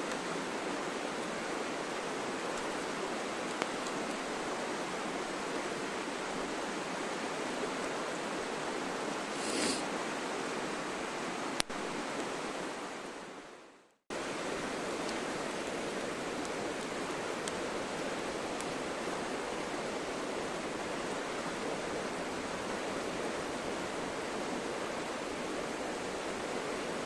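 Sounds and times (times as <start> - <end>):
rushing stream: 0.0 - 27.0.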